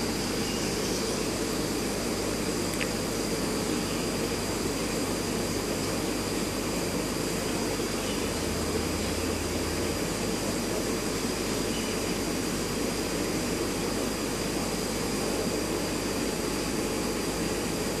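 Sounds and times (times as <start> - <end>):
aquarium air pump humming: 0.0 - 18.0.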